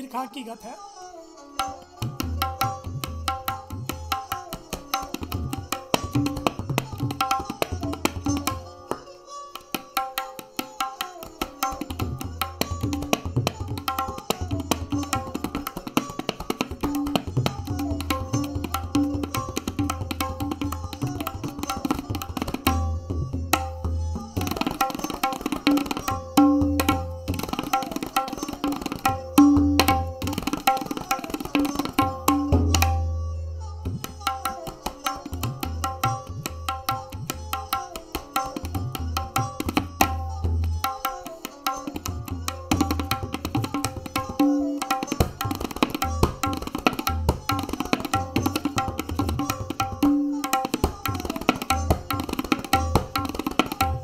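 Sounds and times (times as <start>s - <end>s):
tabla drumming: 1.6s - 54.0s.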